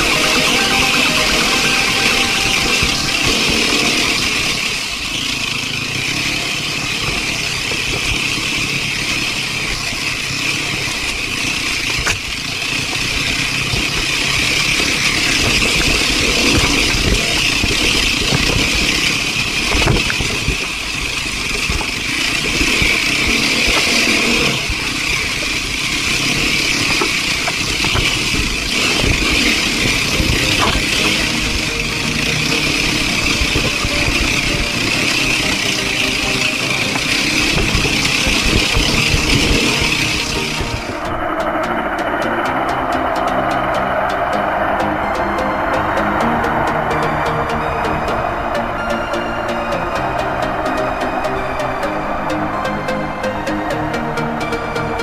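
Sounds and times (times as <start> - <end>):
dirt bike engine running: 1.6 - 55.0.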